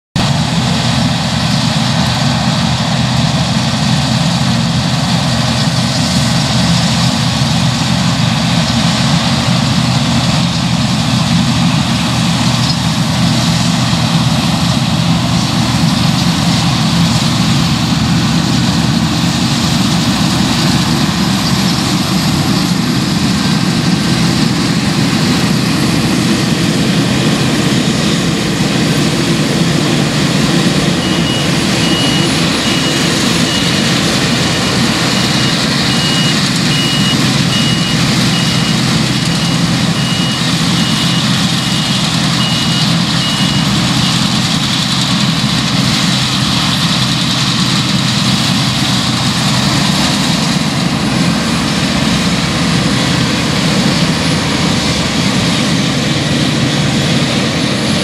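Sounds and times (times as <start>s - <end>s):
combine harvester droning: 0.1s - 58.0s.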